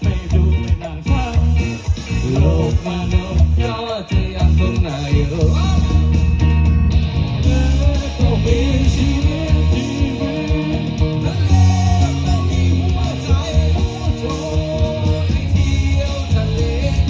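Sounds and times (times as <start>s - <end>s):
person singing: 0.0s - 6.3s, 7.4s - 17.0s
rock band playing: 0.0s - 17.0s.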